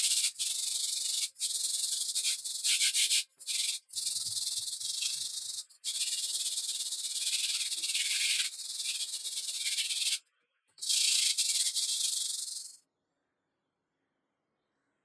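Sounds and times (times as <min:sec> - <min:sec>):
sandpaper rubbing on metal: 0:00.0 - 0:10.2, 0:10.8 - 0:12.8.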